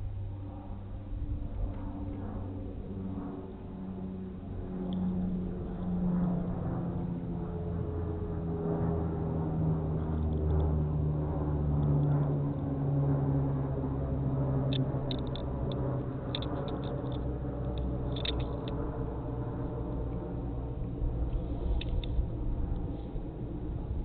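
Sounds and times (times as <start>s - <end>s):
engine humming: 1.7s - 24.0s.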